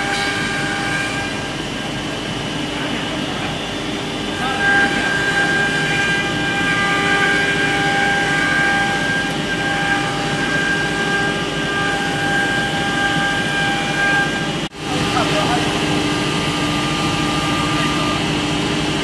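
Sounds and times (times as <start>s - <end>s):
router spindle whining: 2.9s - 19.0s.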